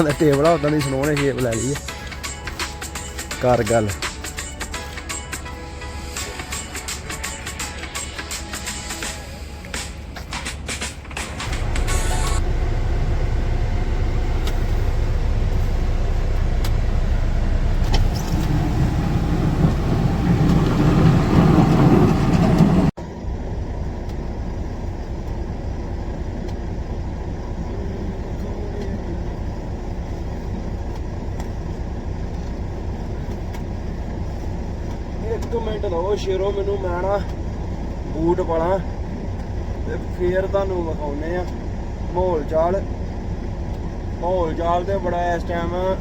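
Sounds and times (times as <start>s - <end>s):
vehicle engine and road rumble: 0.0s - 46.0s.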